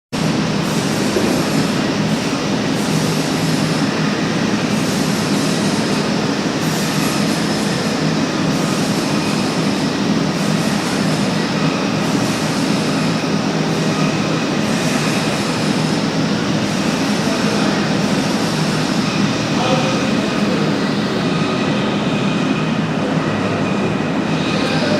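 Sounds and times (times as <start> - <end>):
press brake machine hum: 0.2 - 21.2.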